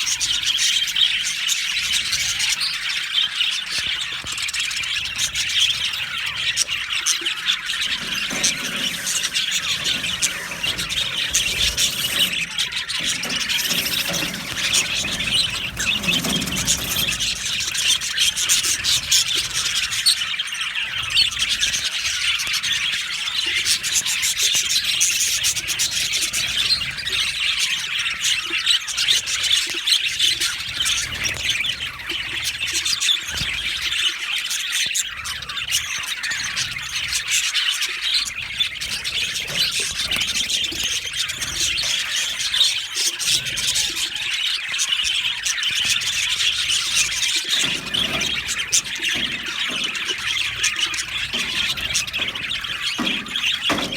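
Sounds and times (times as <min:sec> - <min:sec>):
budgerigars chattering: 0:00.0 - 0:53.9.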